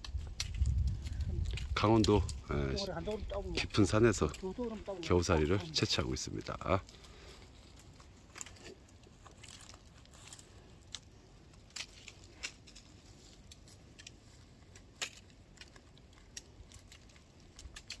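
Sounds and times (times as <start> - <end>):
twigs snapping: 0.0 - 18.0.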